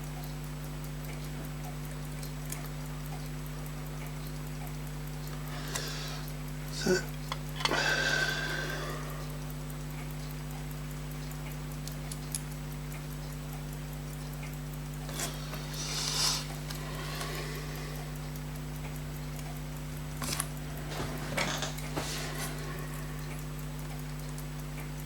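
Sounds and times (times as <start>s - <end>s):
clock ticking: 0.0s - 25.0s
electrical hum: 0.0s - 25.0s.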